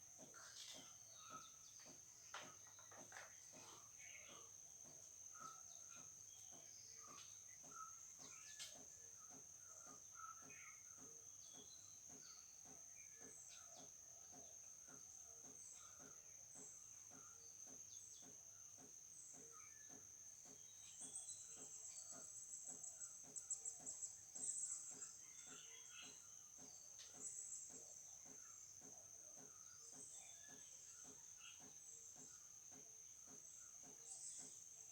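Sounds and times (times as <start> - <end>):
faint chirps: 0.0 - 34.9
insect chorus drone: 0.0 - 34.9.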